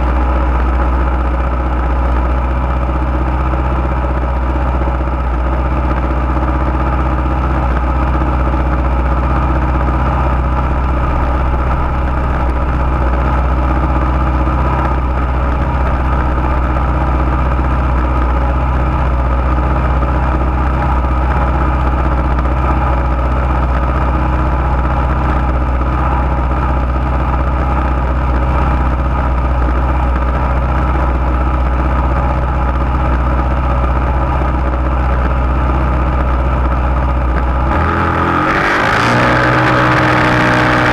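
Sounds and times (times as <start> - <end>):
single-cylinder engine idling: 0.0 - 40.9.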